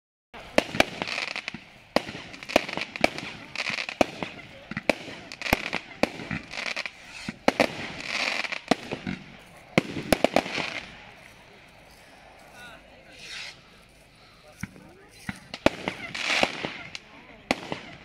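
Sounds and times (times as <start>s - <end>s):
fireworks bangs: 0.4s - 13.7s, 14.5s - 18.0s
fireworks crackling hiss: 0.4s - 18.0s.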